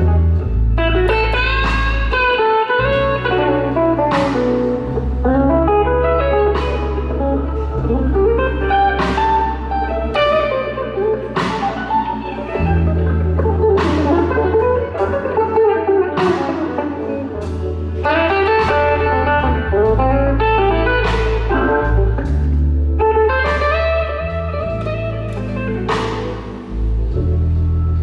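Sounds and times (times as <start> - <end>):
drums: 0.0 - 5.8, 6.5 - 10.6, 11.4 - 15.5, 16.2 - 27.5
bass notes: 0.0 - 28.0
electric guitar lead lines: 0.0 - 28.0.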